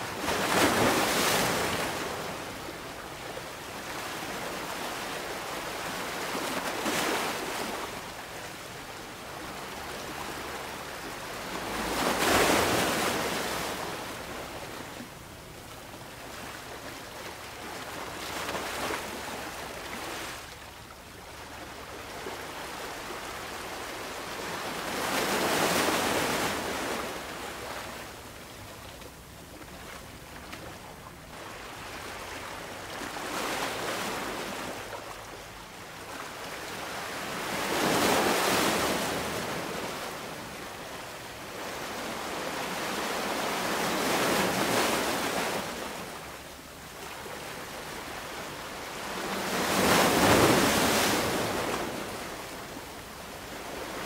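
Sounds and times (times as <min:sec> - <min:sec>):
ocean waves breaking on beach: 0:00.0 - 0:28.3, 0:31.3 - 0:54.0.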